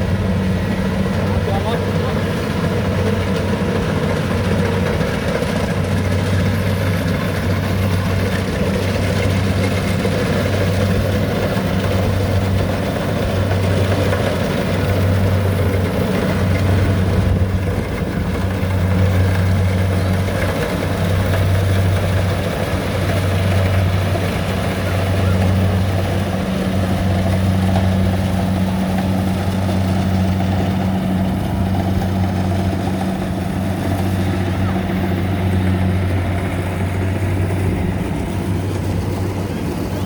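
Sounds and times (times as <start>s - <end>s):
combine harvester engine humming: 0.0s - 40.0s.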